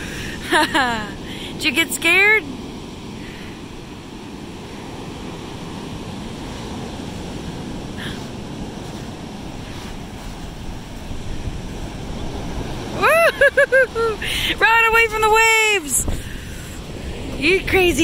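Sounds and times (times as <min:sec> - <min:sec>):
ocean surf on sand: 0:00.0 - 0:18.0
wind on microphone: 0:02.5 - 0:18.0.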